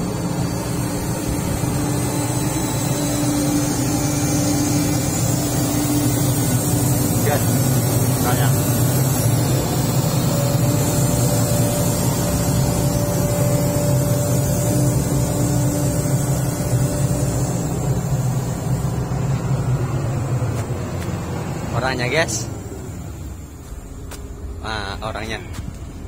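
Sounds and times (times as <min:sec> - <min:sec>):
excavator diesel engine running: 0:00.0 - 0:26.0
thin steady whine: 0:00.0 - 0:26.0.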